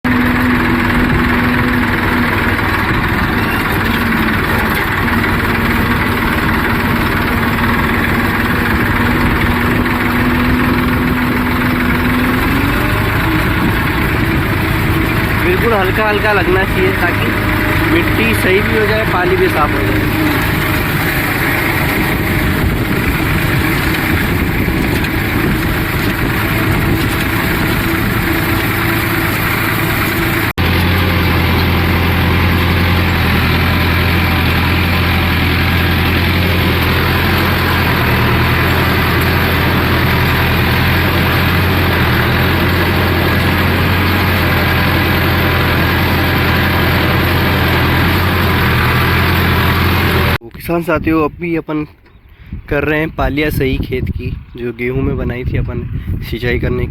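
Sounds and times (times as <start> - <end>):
tractor engine running under load: 0.0 - 50.7.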